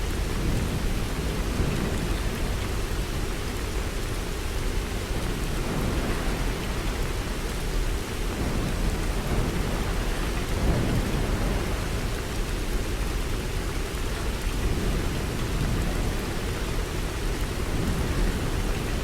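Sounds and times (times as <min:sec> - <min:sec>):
hiss of heavy rain: 0:00.0 - 0:19.0.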